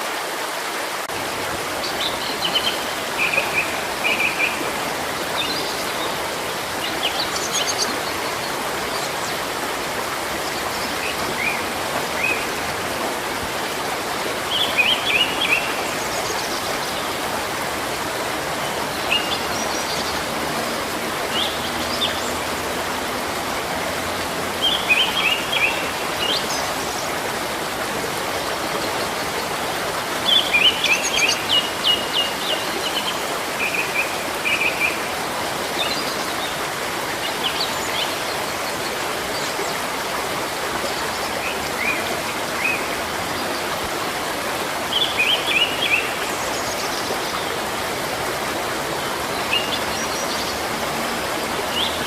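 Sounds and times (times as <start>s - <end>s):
running water: 0.0s - 52.0s.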